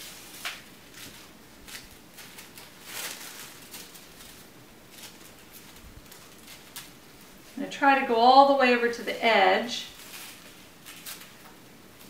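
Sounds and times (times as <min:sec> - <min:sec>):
tissue paper rustling: 0:00.0 - 0:08.3, 0:09.8 - 0:12.0.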